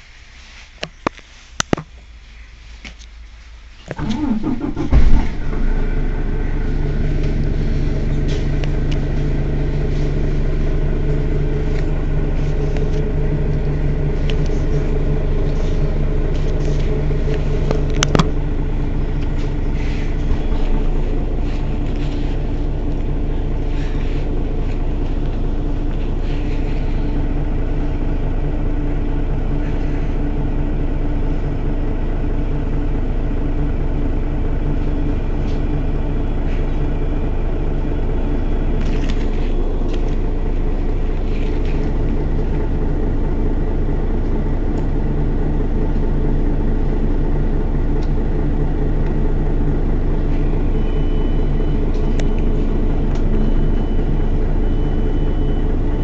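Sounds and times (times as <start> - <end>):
bus engine idling: 2.0 - 56.0.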